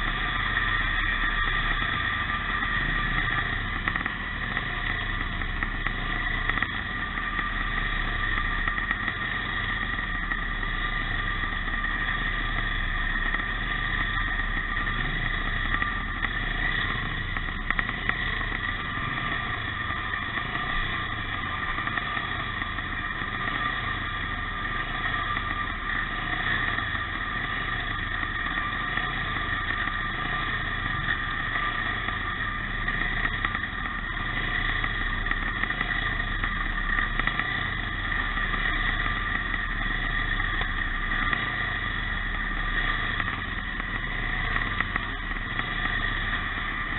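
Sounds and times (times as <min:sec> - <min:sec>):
motorcycle engines racing: 0:00.0 - 0:46.9.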